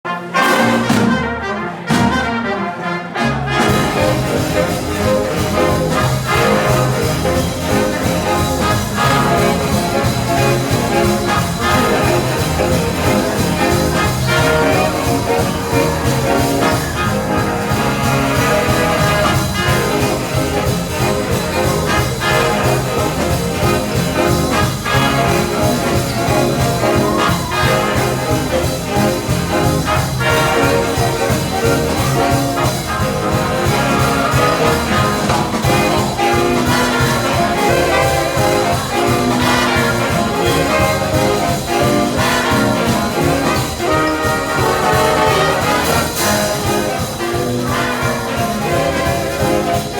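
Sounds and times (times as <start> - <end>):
trumpets and trombones: 0.0 - 49.9
bass and drums beat: 3.6 - 49.9.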